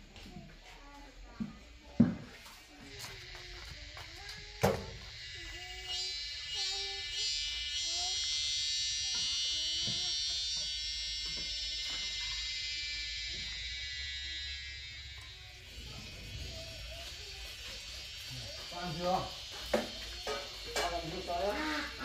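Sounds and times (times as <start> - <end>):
high steady buzzing: 0.0 - 22.0
low calls: 3.2 - 22.0.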